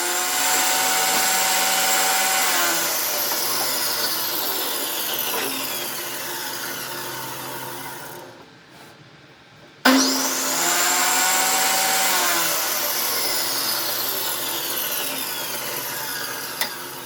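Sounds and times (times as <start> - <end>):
table saw cutting wood: 0.0 - 8.4, 9.9 - 17.0.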